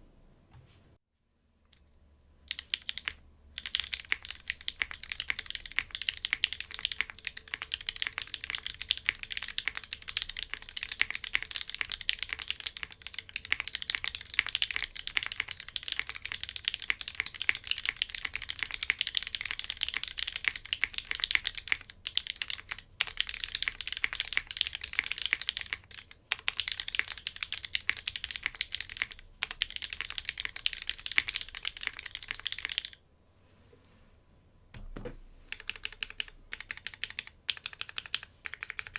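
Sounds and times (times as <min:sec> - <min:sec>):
mechanical keyboard typing: 0:02.5 - 0:33.0, 0:34.8 - 0:38.9.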